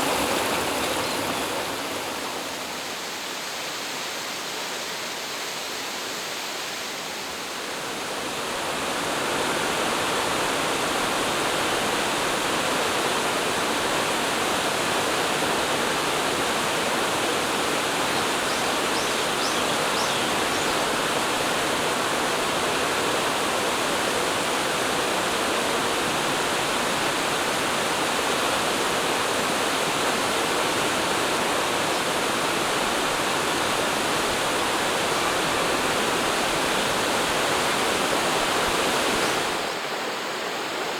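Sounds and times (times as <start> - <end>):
falling water rushing: 0.0 - 4.6, 7.7 - 40.9.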